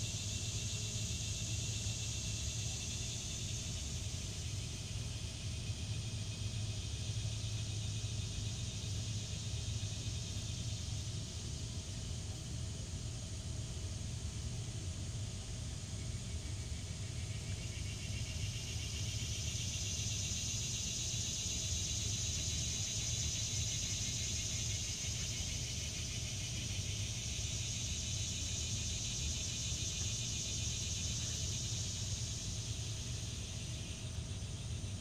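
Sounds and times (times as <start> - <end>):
insect chorus pulsing buzz: 0.0 - 35.0.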